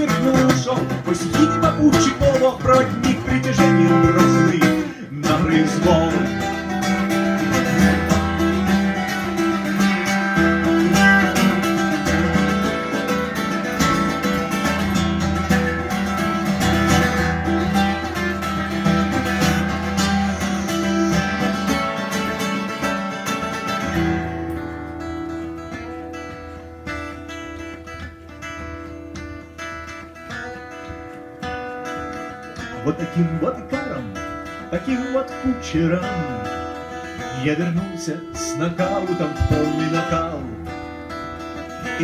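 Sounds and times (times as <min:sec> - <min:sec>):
acoustic guitar strummed and picked: 0:00.0 - 0:42.0.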